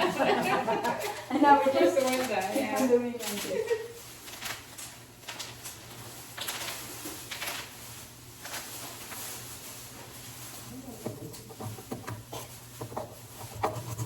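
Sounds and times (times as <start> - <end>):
faint rustling and handling: 0.7 - 14.0.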